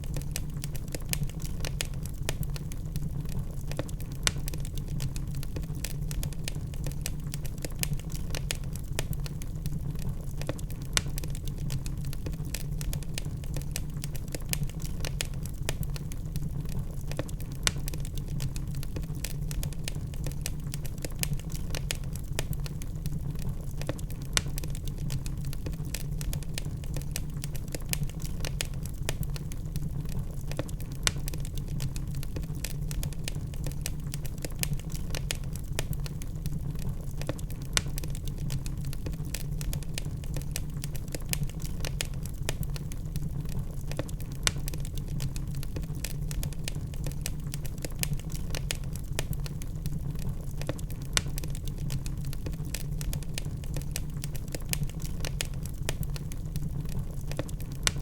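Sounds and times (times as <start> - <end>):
logs crackling in a fireplace: 0.0 - 58.0.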